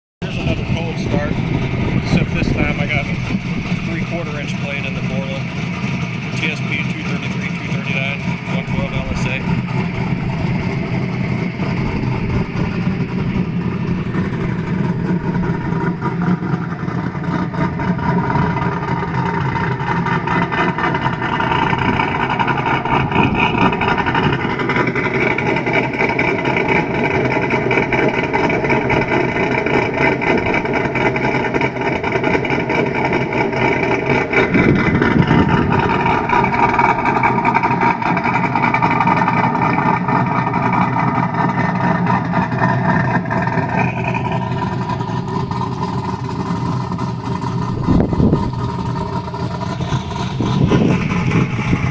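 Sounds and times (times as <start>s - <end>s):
engine idling: 0.2s - 51.9s.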